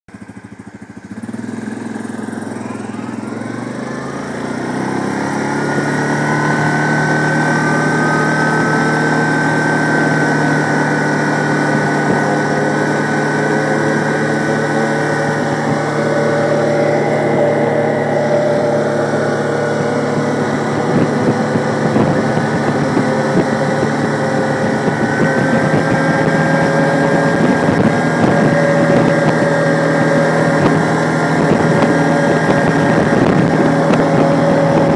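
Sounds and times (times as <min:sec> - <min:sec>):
quad bike engine: 0:00.1 - 0:34.9.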